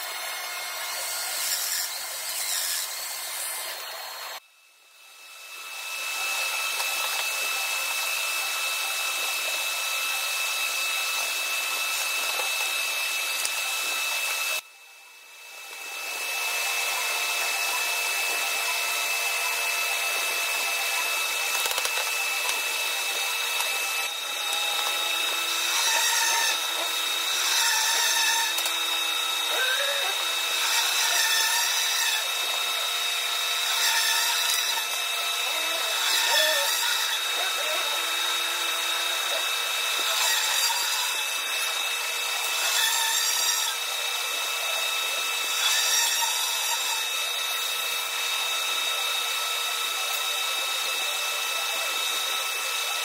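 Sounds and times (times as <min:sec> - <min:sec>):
workshop machinery whirring: 0:00.0 - 0:53.0.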